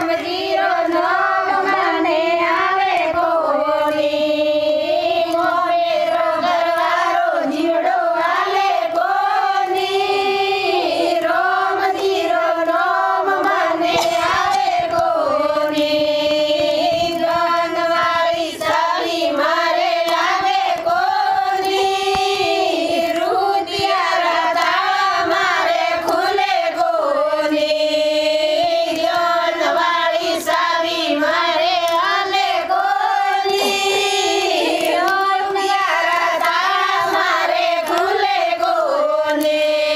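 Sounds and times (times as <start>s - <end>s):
women singing devotional chant: 0.0s - 39.9s.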